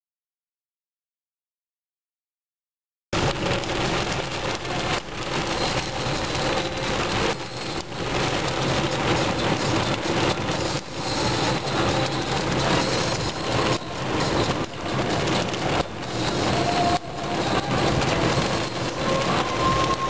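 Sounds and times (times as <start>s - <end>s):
hail and heavy rain on a car: 3.2s - 20.0s.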